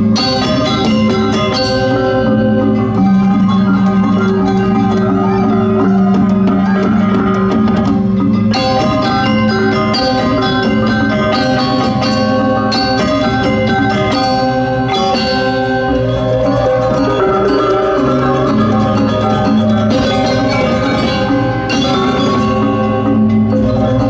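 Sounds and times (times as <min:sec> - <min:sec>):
gamelan ensemble playing: 0:00.0 - 0:24.0.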